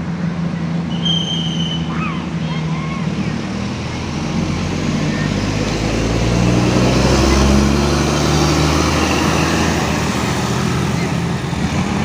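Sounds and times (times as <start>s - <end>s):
bus engine passing by: 0.0s - 12.0s.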